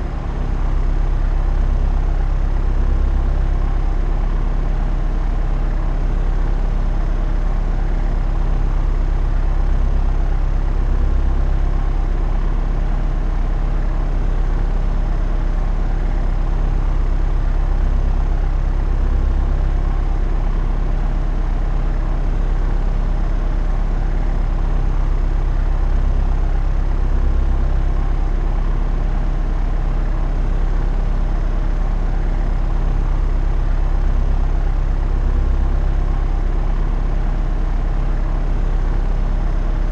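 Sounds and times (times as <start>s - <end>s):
propeller aircraft droning: 0.0s - 39.9s.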